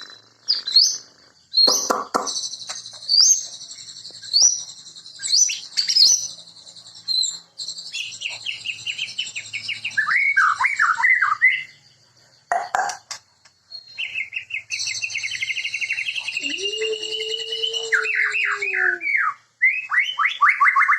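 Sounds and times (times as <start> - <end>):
songbird singing whistled warbles: 0.0 - 20.9.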